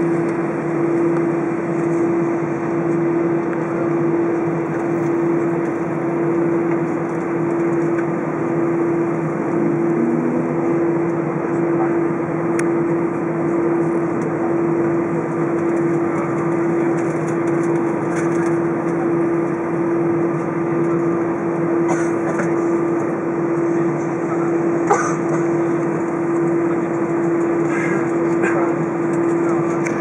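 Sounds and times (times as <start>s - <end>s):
aircraft cabin drone: 0.0s - 30.0s.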